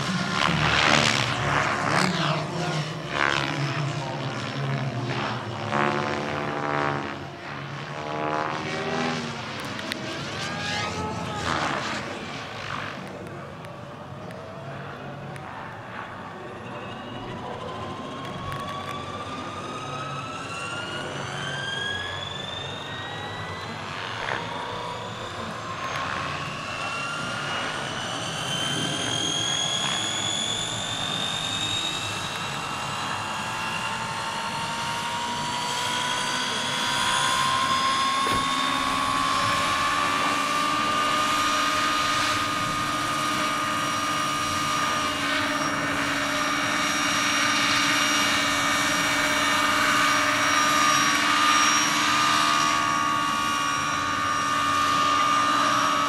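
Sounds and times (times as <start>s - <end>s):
model helicopter whine: 0.0s - 56.0s.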